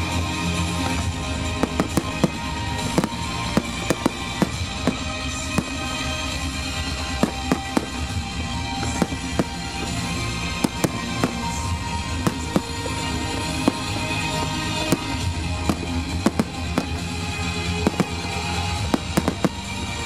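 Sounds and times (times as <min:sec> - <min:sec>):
fireworks bursting with sharp bangs: 0:00.0 - 0:20.0
music playing: 0:00.0 - 0:20.0.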